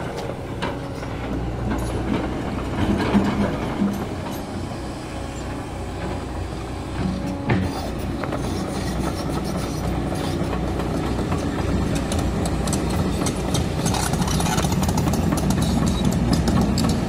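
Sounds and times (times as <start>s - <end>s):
excavator diesel engine running: 0.0s - 17.0s
steel tracks clanking: 0.0s - 17.0s.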